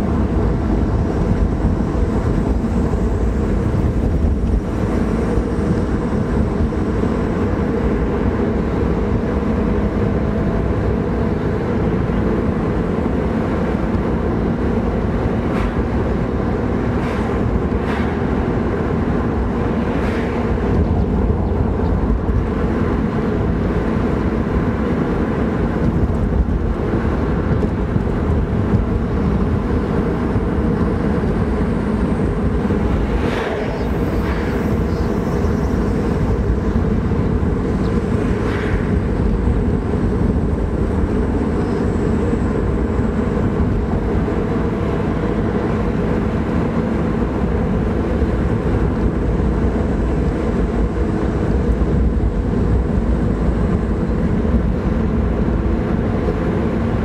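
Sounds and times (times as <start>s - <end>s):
car engine running: 0.0s - 57.0s
tyre and road noise: 0.0s - 57.0s.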